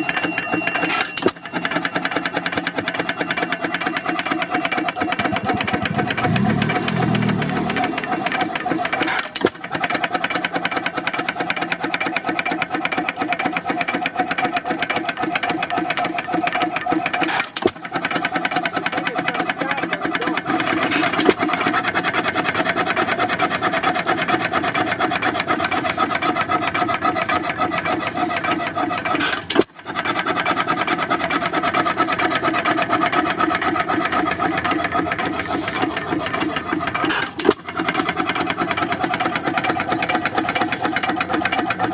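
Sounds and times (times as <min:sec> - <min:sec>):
stationary gas engine clattering: 0:00.0 - 0:41.9.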